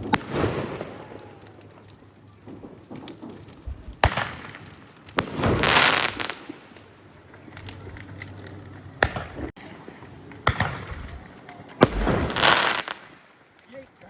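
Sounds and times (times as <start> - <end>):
fireworks bangs: 0.0 - 13.8.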